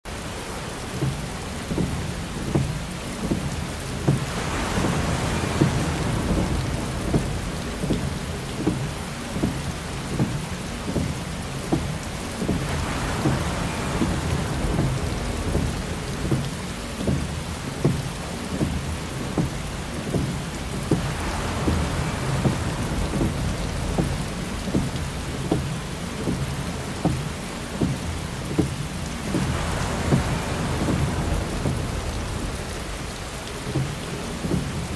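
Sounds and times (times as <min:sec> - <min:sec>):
heavy rain on windshield: 0:00.1 - 0:34.9
windshield wiper swishing: 0:00.2 - 0:34.9.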